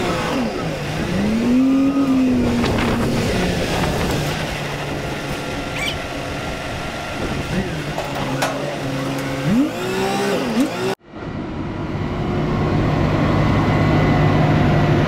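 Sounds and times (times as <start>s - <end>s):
crane engine revving: 0.0s - 15.0s.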